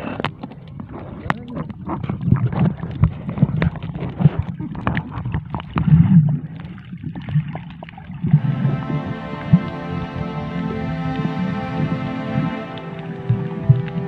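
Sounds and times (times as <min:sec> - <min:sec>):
muffled water sloshing underwater: 0:00.0 - 0:14.0.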